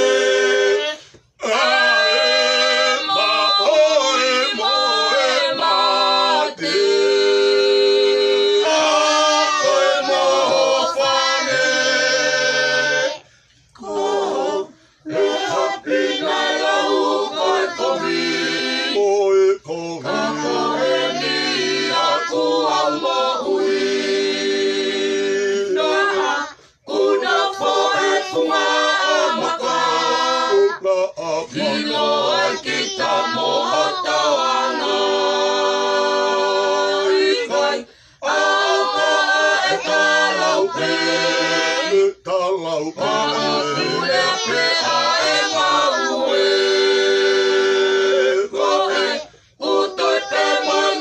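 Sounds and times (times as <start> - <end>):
group singing in harmony: 0.0 - 51.0.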